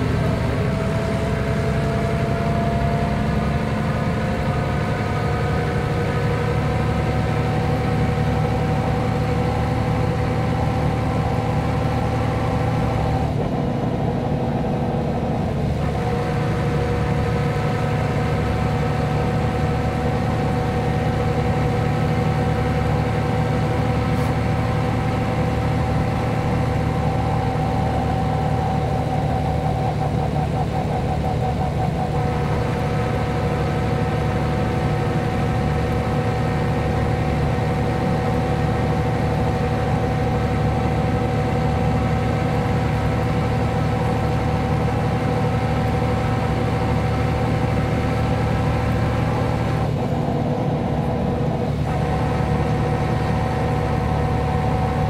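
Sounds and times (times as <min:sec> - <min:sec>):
constant whine: 0:00.0 - 0:55.0
diesel bus engine idling: 0:00.0 - 0:55.0.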